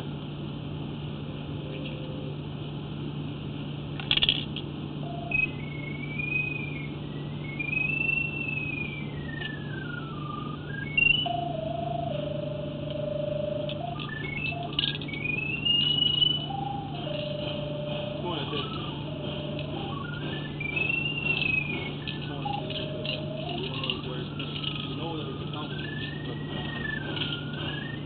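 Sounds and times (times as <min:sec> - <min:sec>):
steady low hum: 0:00.0 - 0:28.0
electronic tone gliding in pitch: 0:05.0 - 0:28.0.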